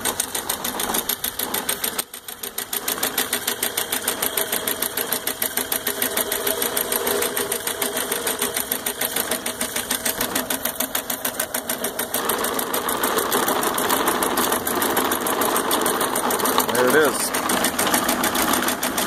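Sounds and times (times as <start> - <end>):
model engine mechanical clatter: 0.0 - 19.0.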